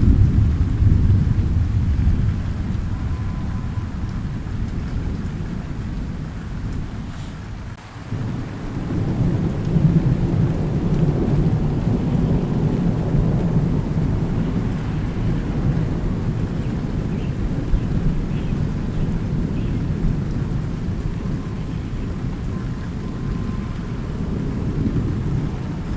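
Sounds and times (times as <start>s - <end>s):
rain falling: 0.0s - 25.9s
thunder rumbling: 0.0s - 25.9s.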